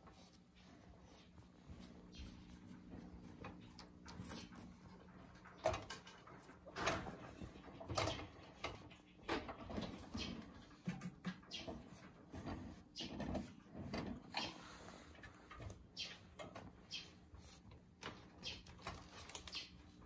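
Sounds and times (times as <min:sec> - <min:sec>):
toy rustling against wire cage: 0:00.0 - 0:20.0.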